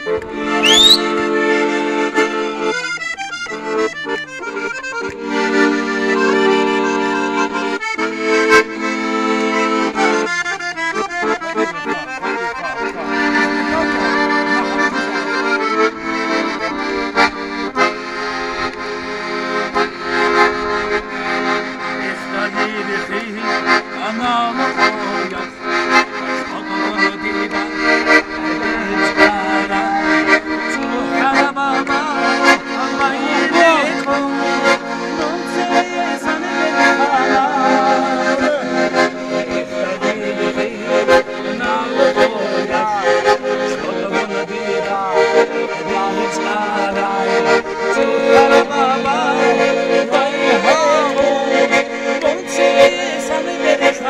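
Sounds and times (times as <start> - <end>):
accordion playing folk tune: 0.0 - 54.0.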